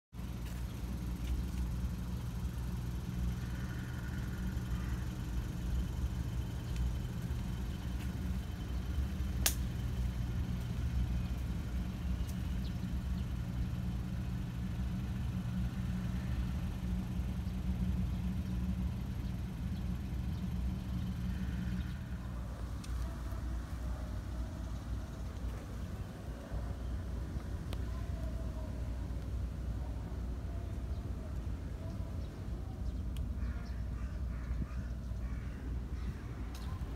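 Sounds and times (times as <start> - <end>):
engine idling hum: 0.1 - 36.9.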